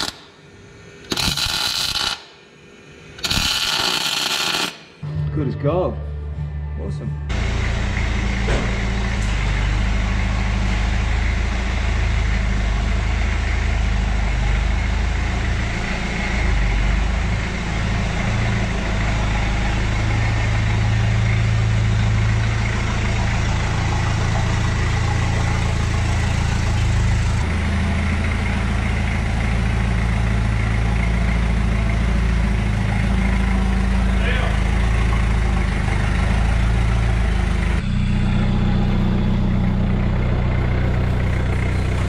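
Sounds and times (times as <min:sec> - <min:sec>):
diesel engine idling: 0:05.0 - 0:42.0.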